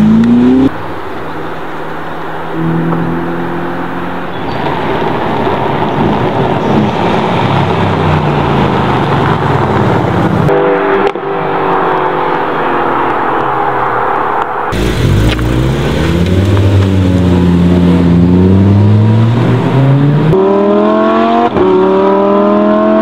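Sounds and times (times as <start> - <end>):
car engine revving and accelerating: 0.0 - 1.0, 2.4 - 23.0
sports car pulling away: 2.5 - 14.0, 14.7 - 23.0.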